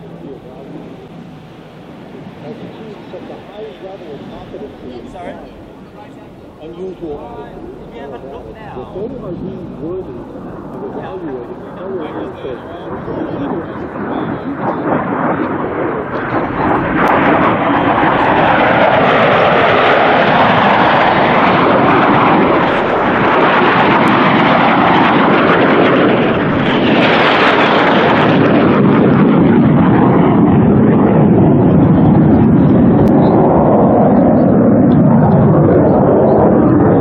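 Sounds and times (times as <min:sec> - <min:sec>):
jet engine flying past: 0:00.0 - 0:37.0.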